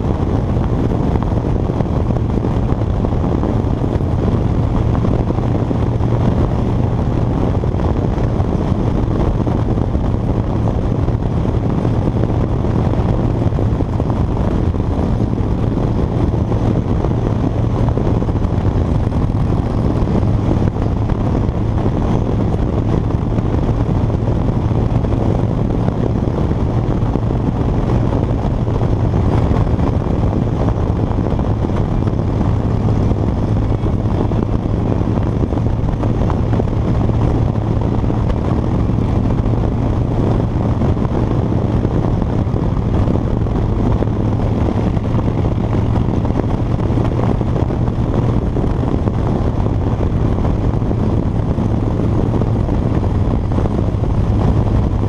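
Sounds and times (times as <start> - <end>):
motorcycle engine droning: 0.0 - 55.0
wind and road noise: 0.0 - 55.0.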